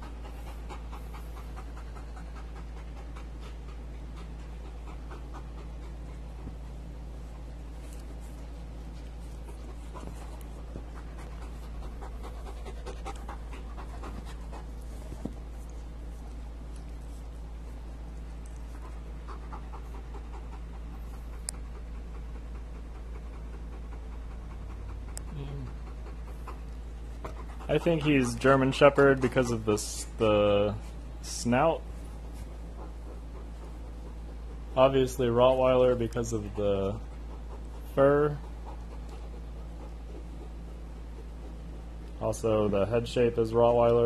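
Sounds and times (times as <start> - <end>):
dog panting: 0.0 - 44.0.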